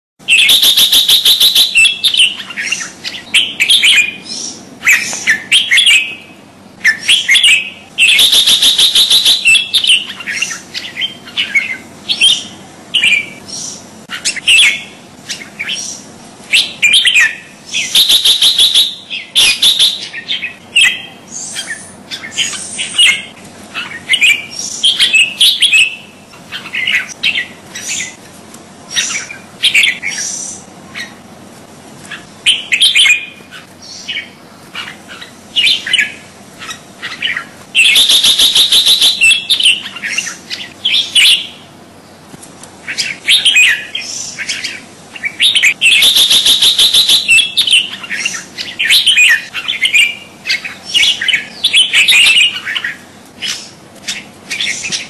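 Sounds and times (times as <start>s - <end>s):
bird singing whistled phrases: 0.2s - 28.2s, 32.4s - 34.3s, 35.2s - 41.6s, 42.9s - 55.0s
harsh bird chattering: 0.2s - 28.2s, 32.1s - 41.6s, 42.8s - 55.0s.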